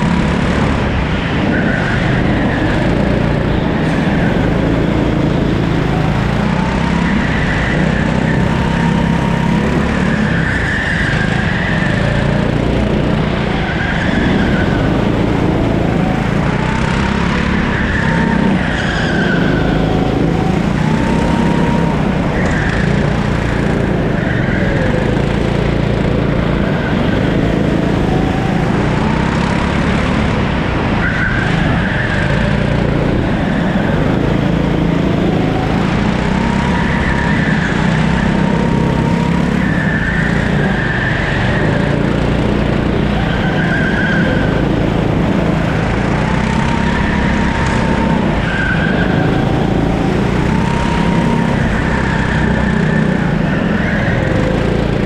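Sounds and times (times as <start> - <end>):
kart engine revving: 0.0 - 55.0
tyres squealing: 6.8 - 29.2, 30.9 - 54.8.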